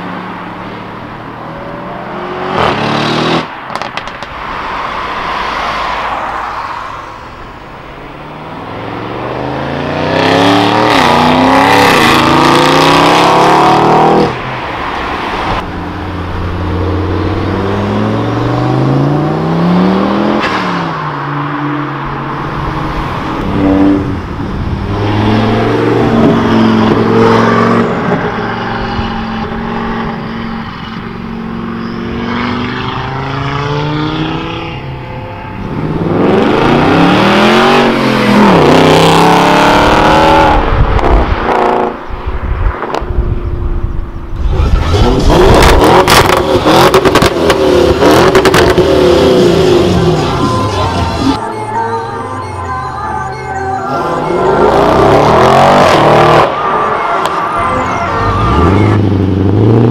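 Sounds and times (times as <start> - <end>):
car engines accelerating hard: 0.0 - 42.2, 42.8 - 51.4, 53.8 - 59.9.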